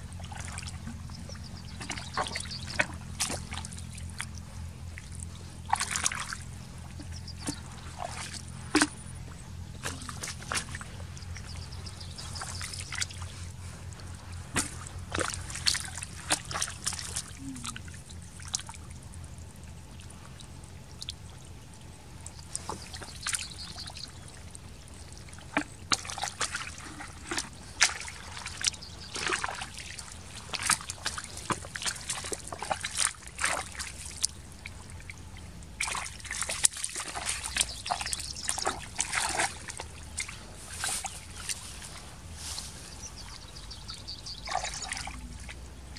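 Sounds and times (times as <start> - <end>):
low steady hum: 0.0 - 45.9
hands splashing in muddy water: 0.2 - 4.4, 5.0 - 18.8, 22.4 - 24.2, 25.2 - 45.9.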